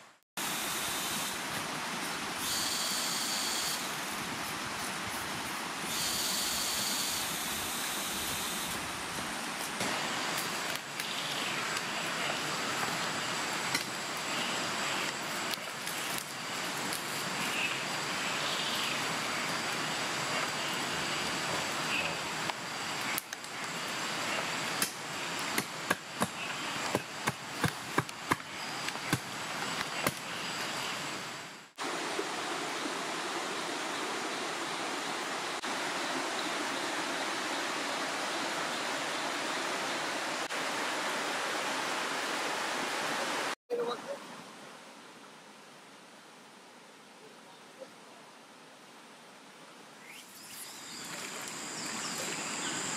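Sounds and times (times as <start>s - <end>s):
stream rushing: 0.0s - 43.6s, 50.7s - 52.9s.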